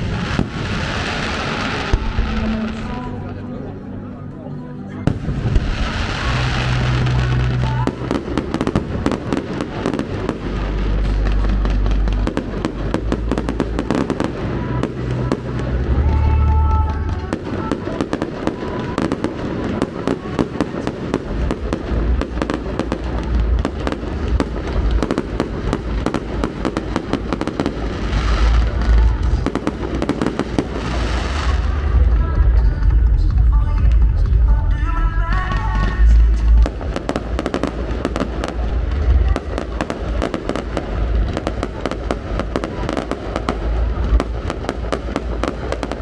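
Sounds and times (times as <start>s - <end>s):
fireworks deep booms: 0.0s - 3.0s, 5.1s - 46.0s
fireworks crackles and bangs: 0.0s - 3.6s, 5.0s - 46.0s.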